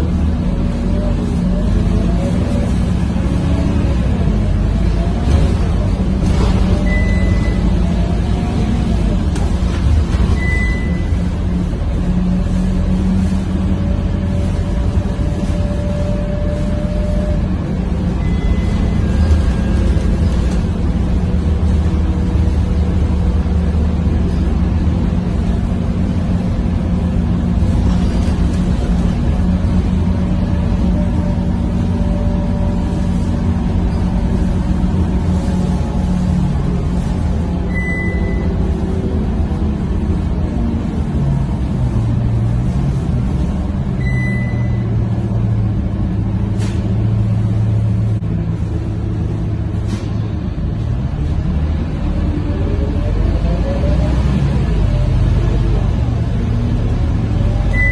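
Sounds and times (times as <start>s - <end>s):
bus diesel engine droning: 0.0s - 57.9s.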